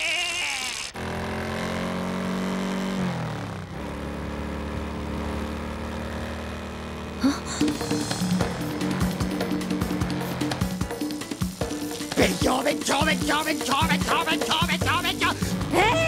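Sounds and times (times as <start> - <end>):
motorcycle engine running: 0.9 - 16.0.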